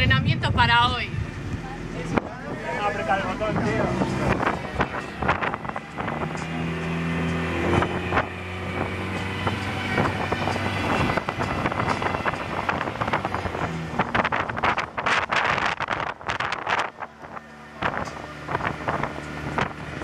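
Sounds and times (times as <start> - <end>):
boat engine humming: 0.0 - 20.0
wind buffeting microphone: 0.0 - 20.0.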